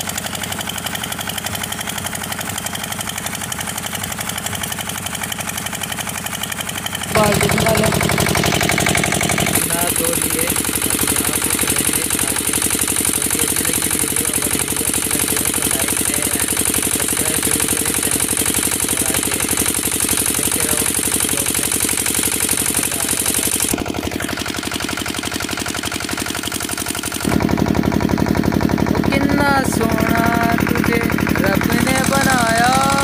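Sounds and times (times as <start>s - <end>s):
water pump engine knocking: 0.0s - 33.0s.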